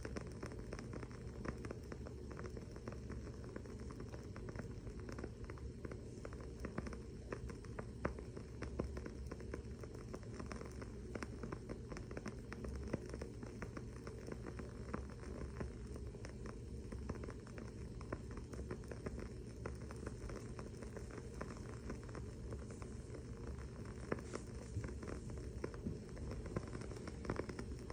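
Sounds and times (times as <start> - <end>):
candle crackling: 0.0 - 27.9
steady low hum: 0.0 - 27.9.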